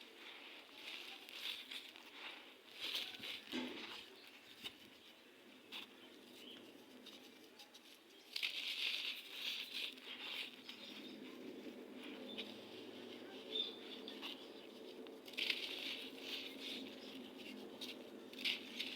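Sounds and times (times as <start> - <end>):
gritty sand crumbling: 0.0 - 7.3, 8.2 - 18.9.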